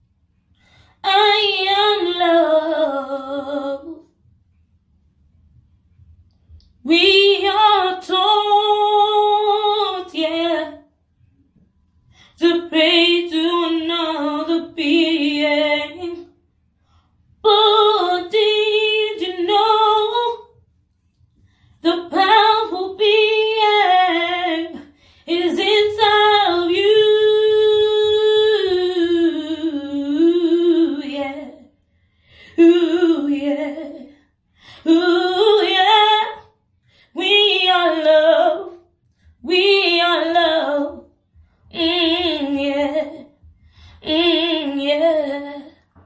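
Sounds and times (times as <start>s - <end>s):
woman singing a cappella: 0.9s - 4.2s, 6.6s - 10.9s, 12.1s - 16.4s, 17.4s - 20.6s, 21.7s - 31.8s, 32.4s - 46.0s.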